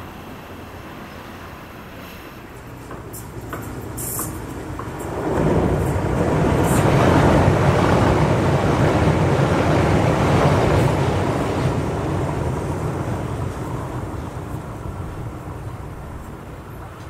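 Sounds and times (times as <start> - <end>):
train rumbling across steel bridge: 0.0 - 17.0.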